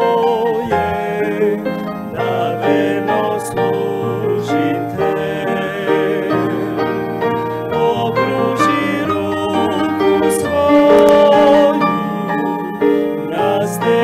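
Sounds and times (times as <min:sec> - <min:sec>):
piano accompaniment: 0:00.0 - 0:14.0
two men singing a hymn: 0:00.0 - 0:14.0.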